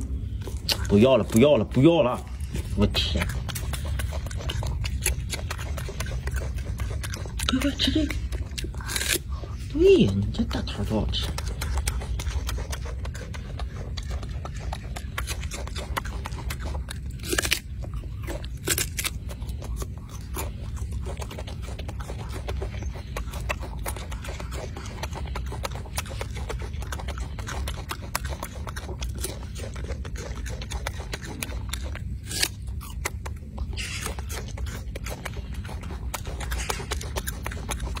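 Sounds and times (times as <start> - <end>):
low steady rumble: 0.0 - 38.0
monkey chewing an apple: 0.0 - 38.0.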